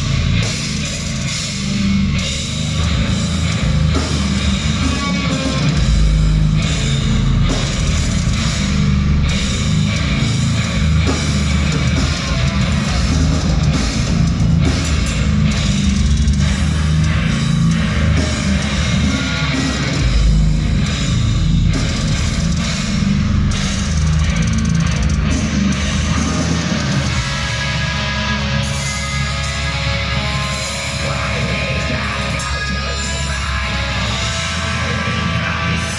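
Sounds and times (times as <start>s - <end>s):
distorted electric guitars: 0.0s - 35.9s
pounding drum kit: 0.0s - 35.9s.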